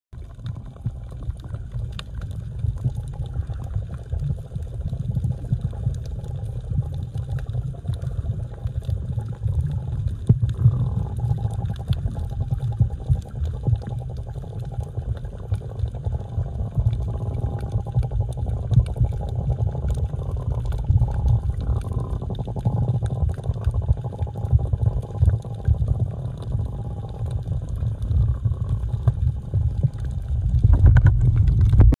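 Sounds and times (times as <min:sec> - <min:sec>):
low rumble of moving water: 0:00.1 - 0:32.0.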